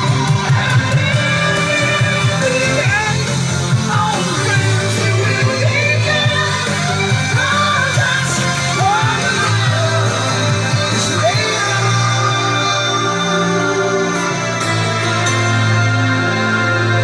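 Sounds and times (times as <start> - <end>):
pop-rock song with vocals: 0.0 - 17.0.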